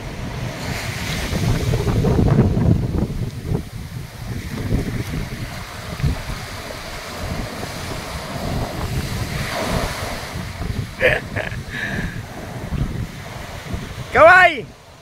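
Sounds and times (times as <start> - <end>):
sea surf breaking: 0.0 - 15.0
wind buffeting microphone: 0.0 - 15.0.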